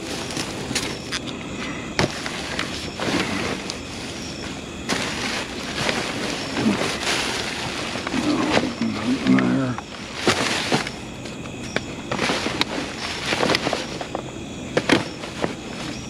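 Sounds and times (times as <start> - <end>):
garbage bags and cardboard rustling: 0.0 - 16.0.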